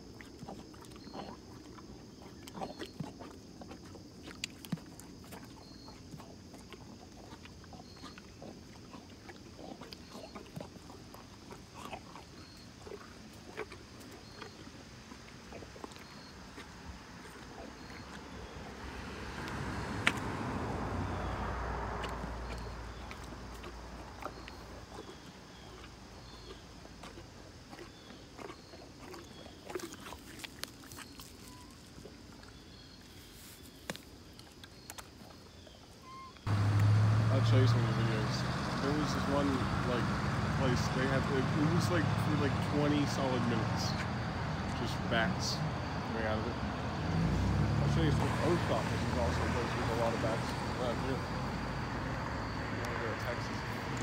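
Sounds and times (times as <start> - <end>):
pony chewing corn crunches: 0.0 - 50.8.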